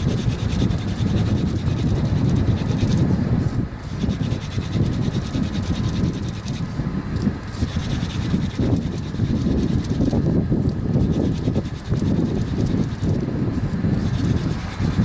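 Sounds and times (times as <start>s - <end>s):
hands rubbing on wooden shaft: 0.0s - 3.1s, 3.8s - 6.8s, 7.5s - 10.2s, 11.0s - 15.0s
wooden spindle scratching in socket: 0.0s - 3.1s, 3.8s - 13.3s, 14.0s - 15.0s
wind rumble on microphone: 0.0s - 15.0s.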